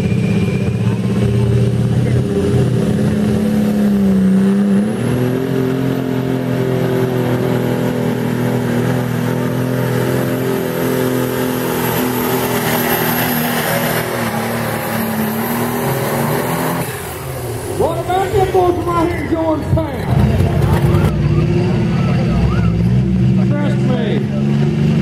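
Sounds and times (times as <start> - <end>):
tractor engine at full throttle: 0.0 - 25.0.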